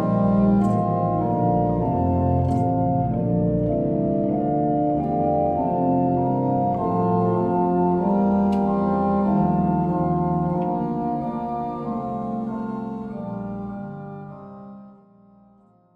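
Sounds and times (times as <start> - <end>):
church organ chords: 0.0 - 15.9.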